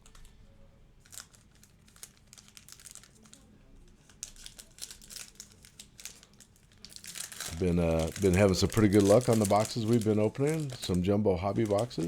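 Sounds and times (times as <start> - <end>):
wrapper crinkling and tearing: 1.0 - 12.0.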